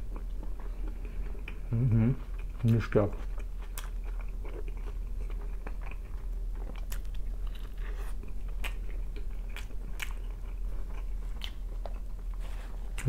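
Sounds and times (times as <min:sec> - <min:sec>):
person chewing with mouth smacks: 0:00.0 - 0:13.0.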